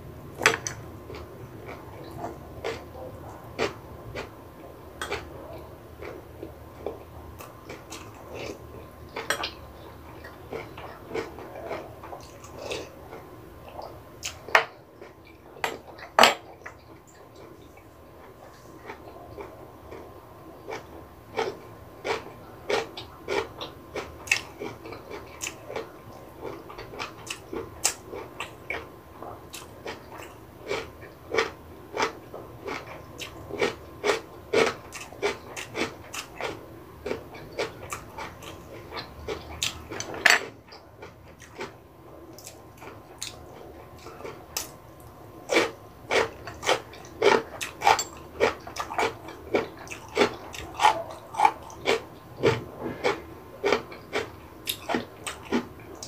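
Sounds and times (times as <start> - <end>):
chewing crunchy food: 0.3 - 56.0.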